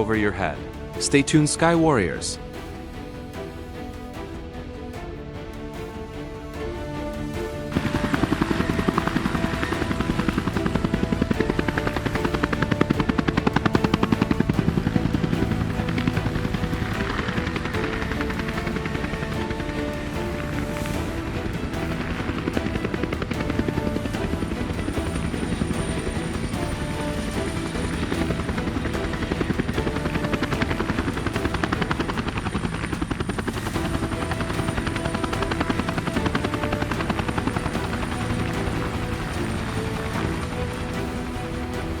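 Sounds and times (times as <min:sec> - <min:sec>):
background music of held notes: 0:00.0 - 0:42.0
helicopter rotor chop: 0:00.0 - 0:42.0.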